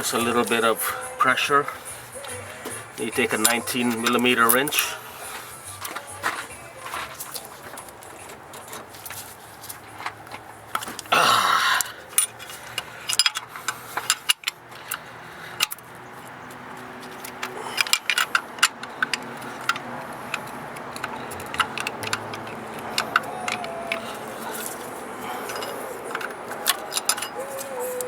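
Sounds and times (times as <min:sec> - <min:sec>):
wrench clinking on metal: 0:00.0 - 0:11.1, 0:11.7 - 0:15.0, 0:17.1 - 0:28.0.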